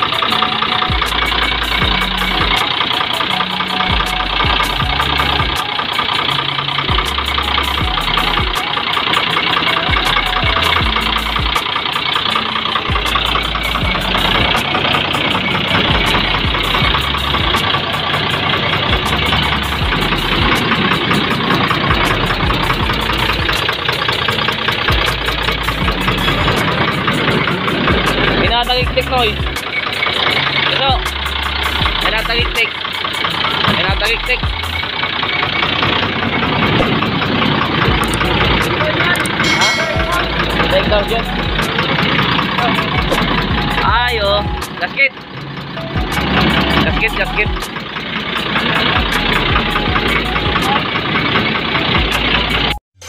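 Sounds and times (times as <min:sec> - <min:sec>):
diesel engine idling with ticking: 0:00.0 - 0:39.5, 0:40.3 - 0:52.8.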